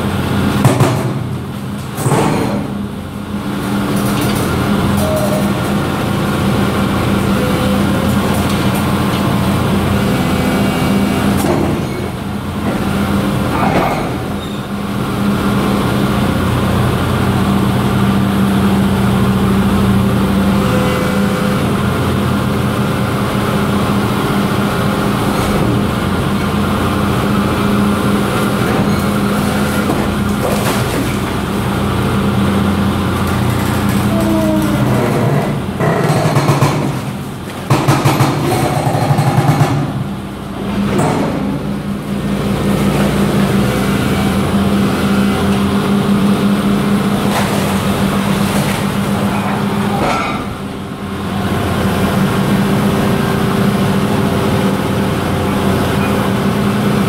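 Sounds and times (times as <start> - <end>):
excavator engine and hydraulics droning: 0.0 - 57.0.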